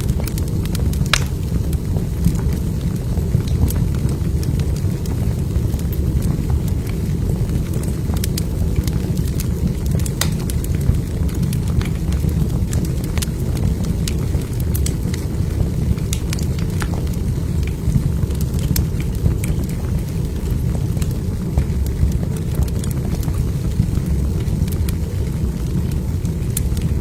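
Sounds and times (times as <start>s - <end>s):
burning logs crackling and popping: 0.0s - 27.0s
flames rumbling: 0.0s - 27.0s.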